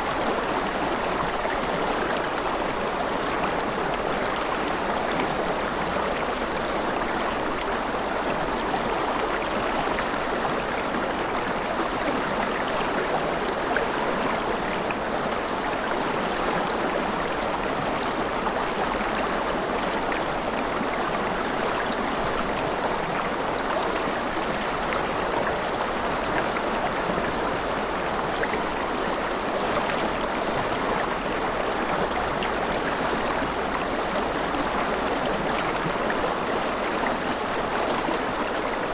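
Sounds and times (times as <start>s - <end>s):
river water rushing and splashing: 0.0s - 38.9s.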